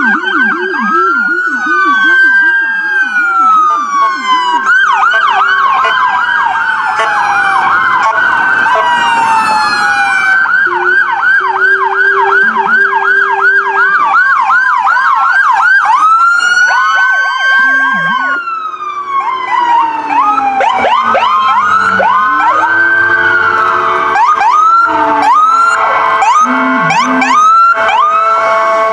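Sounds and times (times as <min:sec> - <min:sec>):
police sirens yelping and wailing: 0:00.0 - 0:28.9.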